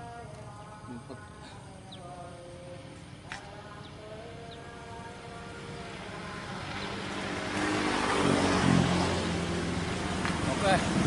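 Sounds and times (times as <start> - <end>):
vehicle engine approaching: 2.0 - 11.0.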